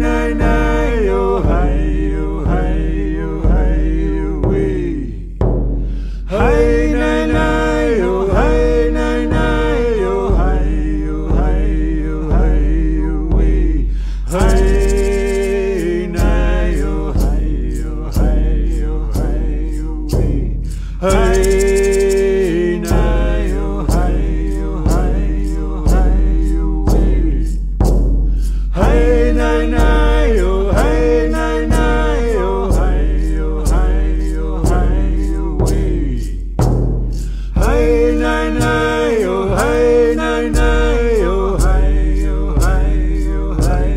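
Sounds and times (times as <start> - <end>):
voices chanting: 0.0 - 5.2, 6.3 - 13.6, 14.3 - 20.4, 21.0 - 27.4, 28.8 - 36.2, 37.6 - 43.9
steady drum beat: 0.0 - 43.9.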